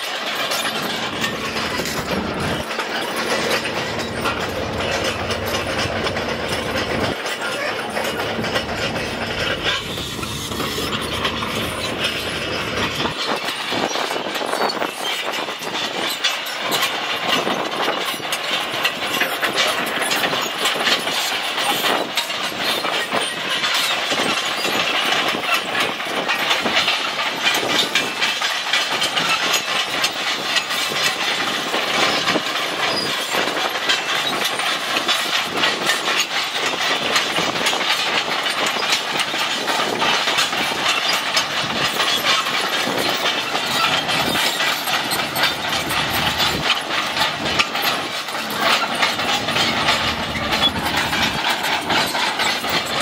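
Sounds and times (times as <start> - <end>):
dump truck diesel engine: 0.0 - 53.0
excavator diesel engine: 0.0 - 53.0
steel tracks clattering: 0.0 - 53.0.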